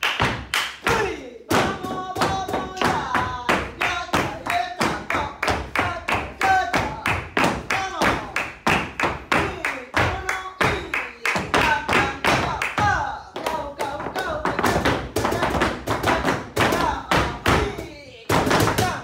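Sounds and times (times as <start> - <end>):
dance shoes stamping on floor: 0.0 - 19.0
flamenco singing voice: 0.2 - 19.0.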